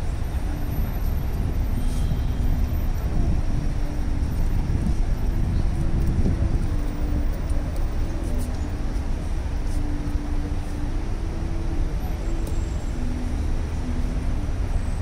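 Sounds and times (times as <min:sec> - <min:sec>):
low rumble of city traffic: 0:00.0 - 0:15.0.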